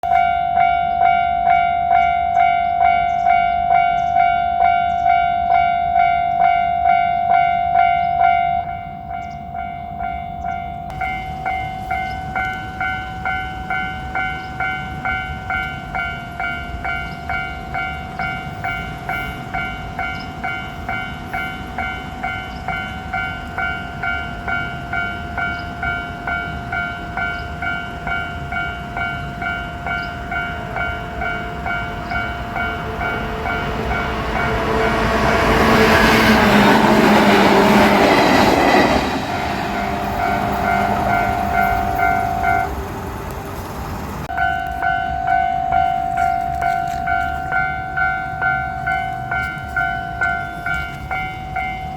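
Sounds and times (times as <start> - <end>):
level-crossing warning bell: 0.0 - 51.9.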